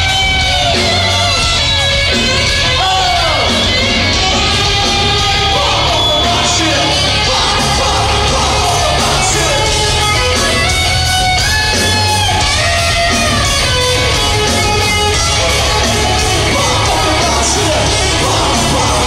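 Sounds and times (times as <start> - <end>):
electric guitar bending notes: 0.0 - 19.0
live rock band playing: 0.0 - 19.0.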